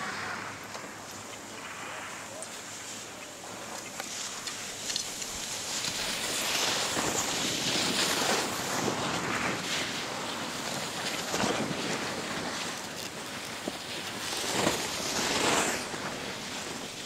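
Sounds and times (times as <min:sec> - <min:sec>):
skis scraping over packed snow: 0:00.0 - 0:17.0.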